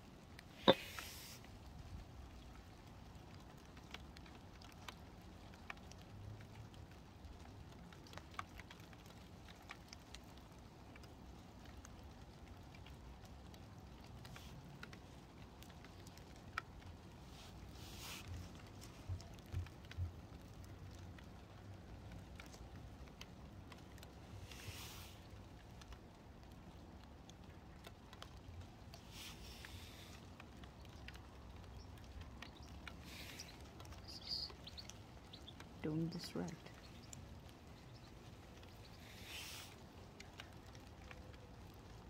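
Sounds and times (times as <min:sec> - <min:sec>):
soil crumbling and roots rustling: 0:00.0 - 0:42.0.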